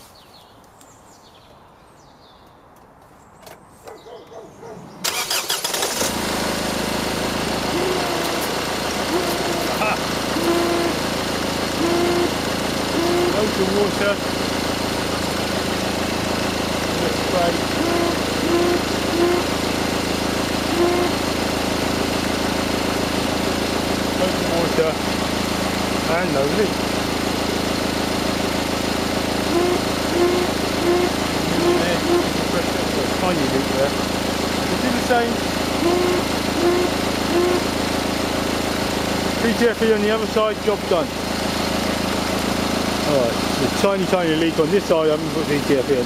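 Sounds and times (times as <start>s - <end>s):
car engine cranking and idling: 4.8s - 46.0s.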